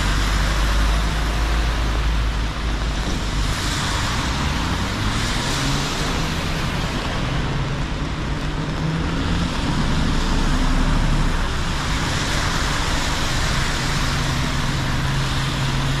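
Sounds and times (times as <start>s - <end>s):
heavy rain falling: 0.0s - 16.0s
low engine hum: 0.0s - 16.0s.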